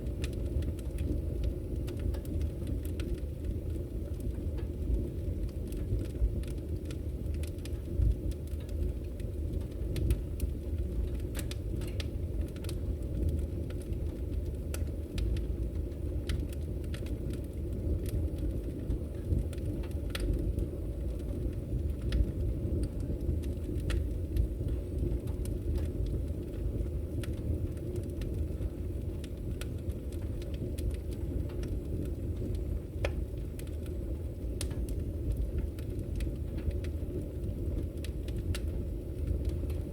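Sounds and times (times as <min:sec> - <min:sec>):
burning wood crackling and popping: 0:00.0 - 0:39.9
low rumble of fire flames: 0:00.0 - 0:39.9.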